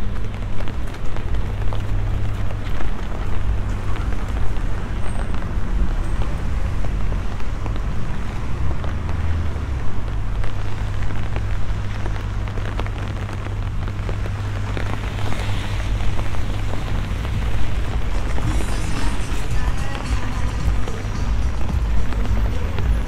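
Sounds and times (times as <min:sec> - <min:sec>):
low rumble: 0:00.0 - 0:23.0
rain pattering on pavement: 0:00.0 - 0:23.0.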